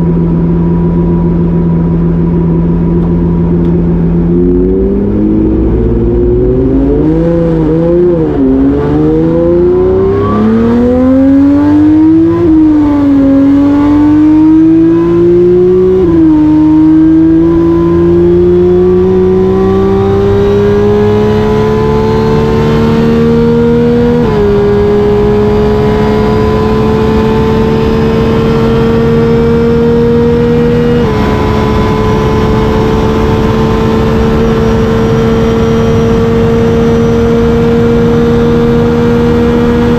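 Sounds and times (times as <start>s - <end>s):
racing car engine at full throttle: 0.0s - 39.9s.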